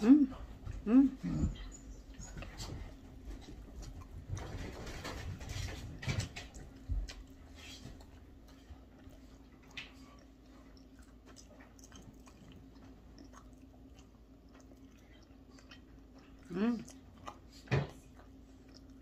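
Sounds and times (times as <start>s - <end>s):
faint steady hum: 0.0s - 19.0s
quiet chewing: 0.2s - 19.0s.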